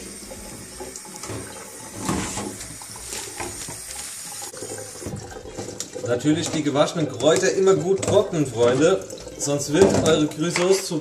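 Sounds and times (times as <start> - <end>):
tap water splashing into sink: 0.0 - 11.0.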